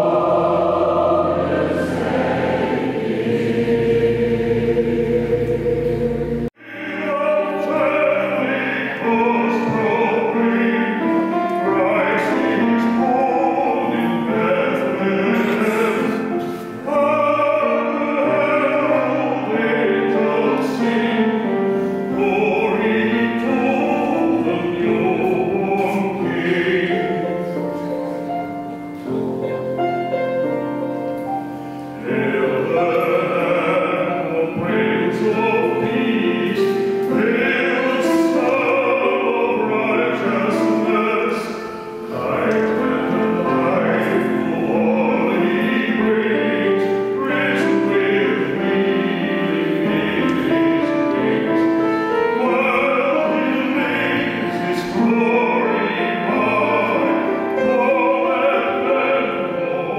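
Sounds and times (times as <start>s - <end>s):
choir singing: 0.0s - 29.8s, 30.8s - 59.9s
solo voice singing: 0.0s - 30.2s, 30.8s - 59.9s
grand piano: 0.0s - 59.9s.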